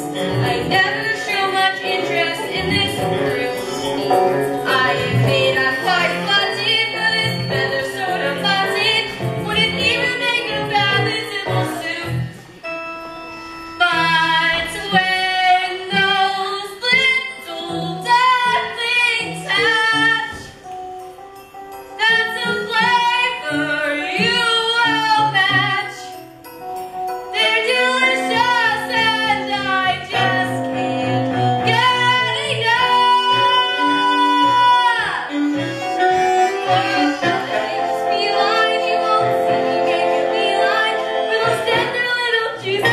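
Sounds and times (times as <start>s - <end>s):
women singing: 0.0s - 12.4s, 13.8s - 20.5s, 22.0s - 26.2s, 27.4s - 42.9s
instrumental accompaniment: 0.0s - 42.9s.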